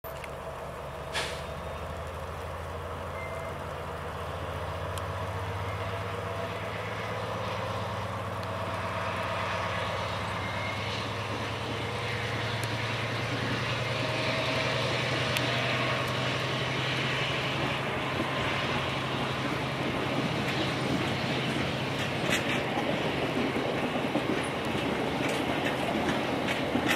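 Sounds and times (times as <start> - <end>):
locomotive diesel engine drone: 0.0 - 26.9.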